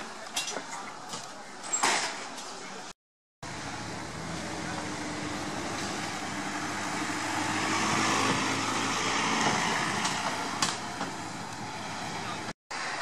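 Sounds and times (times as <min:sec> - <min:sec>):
van engine and tyre noise: 0:00.0 - 0:13.0.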